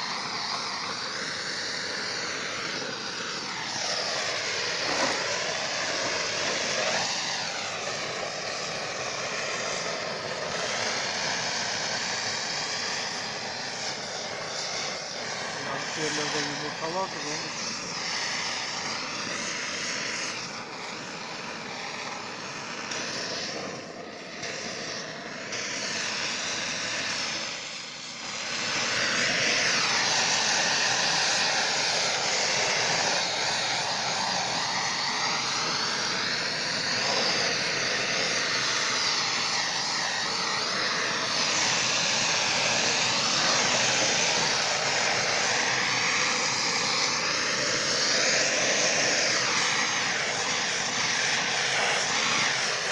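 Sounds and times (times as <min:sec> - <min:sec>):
blowtorch flame hissing: 0:00.0 - 0:52.9.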